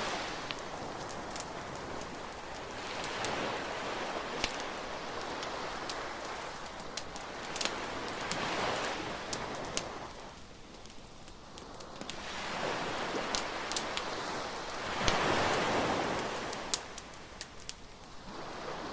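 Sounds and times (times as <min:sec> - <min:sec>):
surf washing: 0:00.0 - 0:10.4, 0:11.6 - 0:17.4
bonfire crackling and popping: 0:00.0 - 0:18.9.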